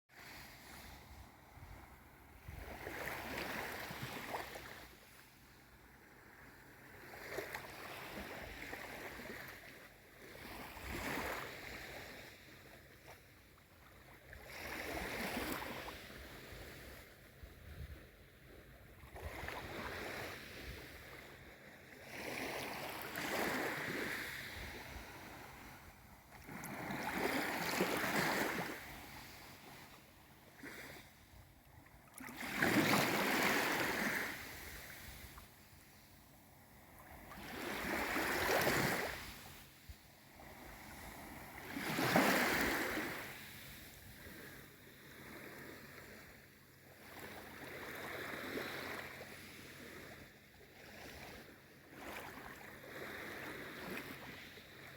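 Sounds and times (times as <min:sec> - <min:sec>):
small sea waves washing in: 0:00.1 - 0:54.9.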